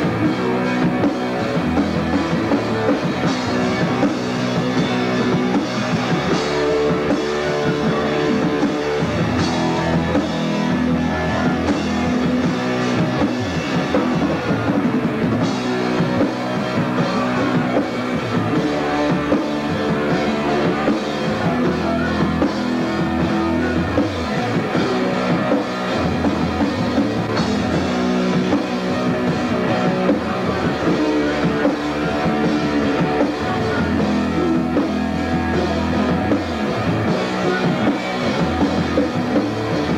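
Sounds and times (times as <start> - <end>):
drums: 0.0 - 39.9
electric guitar: 0.0 - 39.9
punk rock band playing: 0.0 - 39.9.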